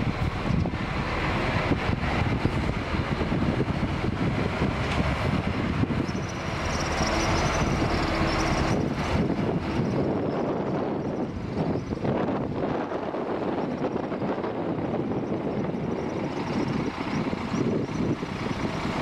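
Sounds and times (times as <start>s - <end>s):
diesel bus engine running: 0.0s - 19.0s
road noise: 0.0s - 19.0s
wind buffeting microphone: 0.0s - 19.0s.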